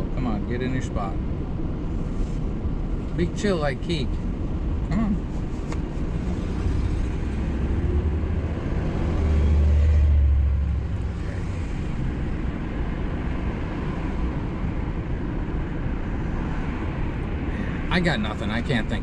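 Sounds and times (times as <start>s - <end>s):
van engine and road rumble: 0.0s - 19.0s.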